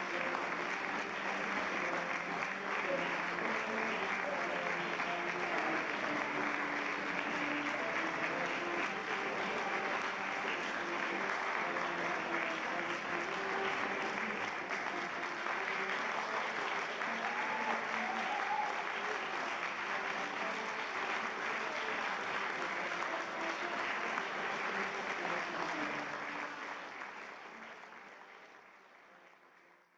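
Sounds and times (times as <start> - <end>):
audience applauding: 0.0 - 29.9.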